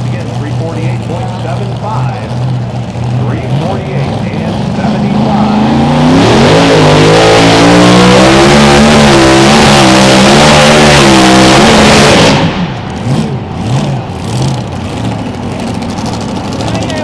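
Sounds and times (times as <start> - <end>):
tractor engine at full throttle: 0.0 - 17.0.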